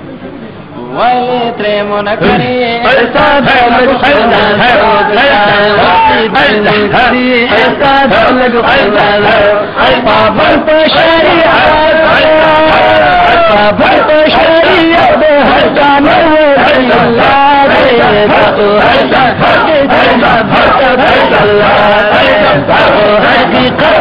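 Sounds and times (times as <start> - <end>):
man singing unaccompanied hymn: 0.8 - 24.0.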